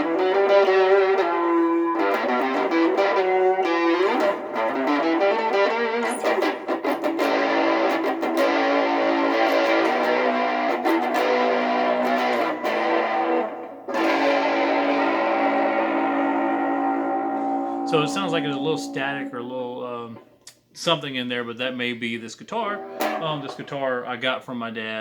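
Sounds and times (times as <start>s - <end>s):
electric guitar chords through amp: 0.0s - 19.6s, 22.8s - 23.6s.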